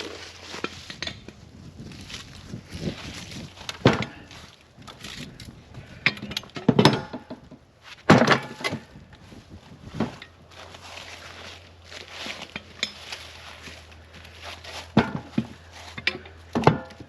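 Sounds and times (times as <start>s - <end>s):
footsteps: 0.0s - 5.6s, 7.8s - 17.0s
rustling: 0.0s - 6.0s, 7.8s - 16.4s
firewood thunking and clattering: 0.0s - 17.0s.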